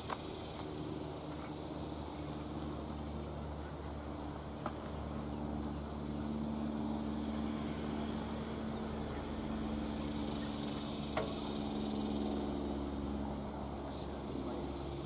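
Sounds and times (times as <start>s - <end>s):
insects buzzing: 0.0s - 15.0s
low steady hum: 0.0s - 15.0s.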